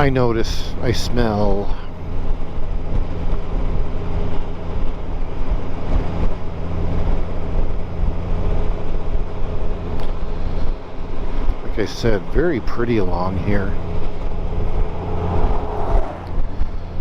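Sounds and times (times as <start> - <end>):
motorcycle engine low hum: 0.0 - 17.0
rushing wind noise: 0.0 - 17.0.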